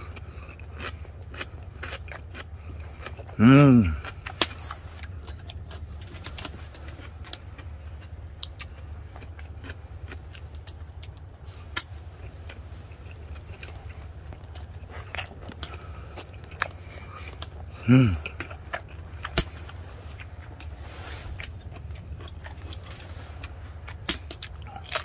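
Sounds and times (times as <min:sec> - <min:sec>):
man chewing food: 0:00.0 - 0:25.0
steady low hum: 0:00.0 - 0:25.0.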